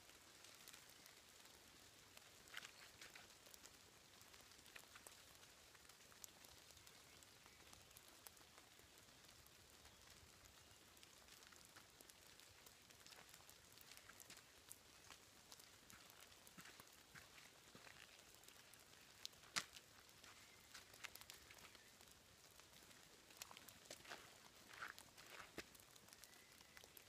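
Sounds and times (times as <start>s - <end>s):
raindrops ticking: 0.0s - 27.0s.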